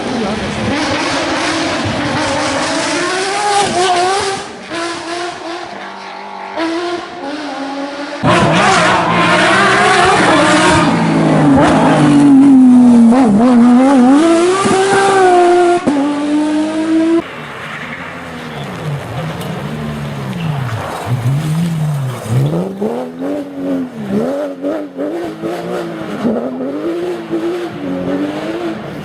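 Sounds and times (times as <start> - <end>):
loud race car engine: 0.0 - 29.0
race car engines at speed: 0.0 - 29.0.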